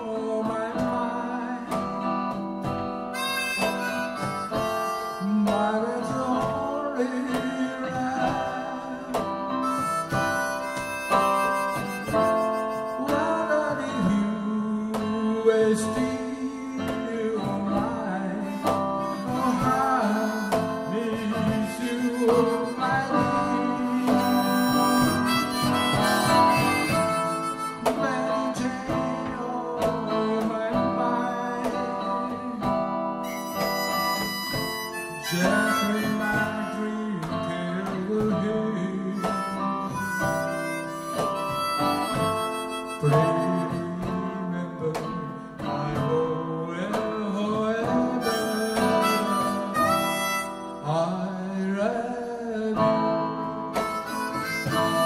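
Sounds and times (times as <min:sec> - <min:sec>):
harmonica melody: 0:00.0 - 0:51.7, 0:52.8 - 0:55.0
cajon beat: 0:00.0 - 0:55.0
strummed acoustic guitar: 0:00.0 - 0:55.0.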